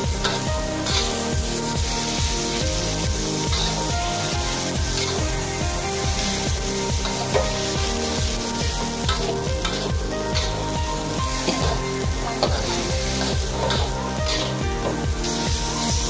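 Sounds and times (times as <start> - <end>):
background music with beat: 0.0 - 16.0
meat sizzling in oil: 0.0 - 16.0
spatula scraping pan: 0.2 - 15.8.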